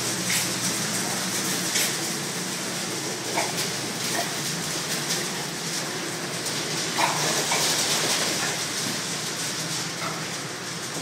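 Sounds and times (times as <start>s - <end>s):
ventilation fans: 0.0s - 11.0s.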